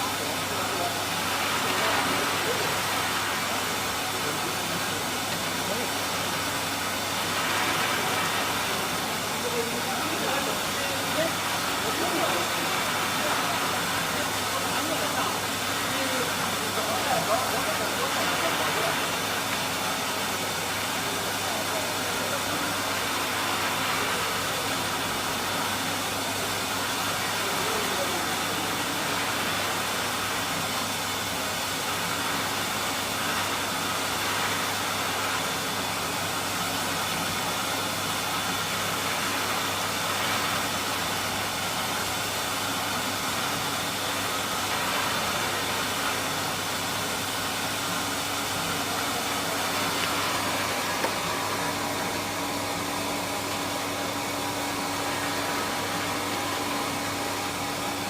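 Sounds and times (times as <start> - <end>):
frying machine humming and hissing: 0.0 - 58.0.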